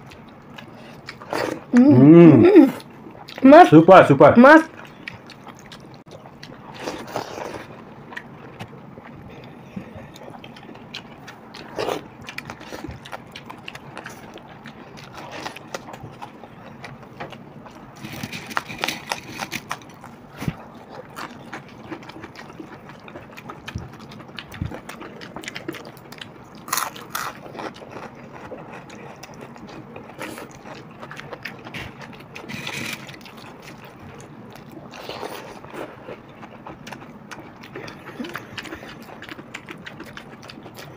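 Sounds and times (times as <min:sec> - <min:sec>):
chewing: 0:00.0 - 0:01.9, 0:02.7 - 0:03.4, 0:04.7 - 0:40.9.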